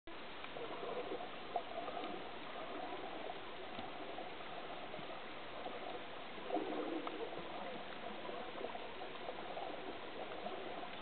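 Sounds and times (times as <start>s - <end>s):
faint ticks: 0.1s - 11.0s
muffled underwater water hiss: 0.1s - 11.0s.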